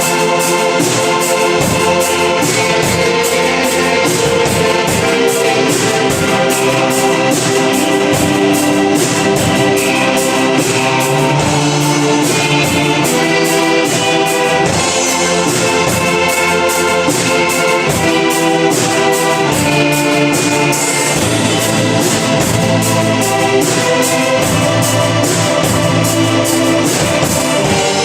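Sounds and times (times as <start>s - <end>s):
live band playing: 0.0s - 28.0s
steady drum beat: 0.0s - 28.0s.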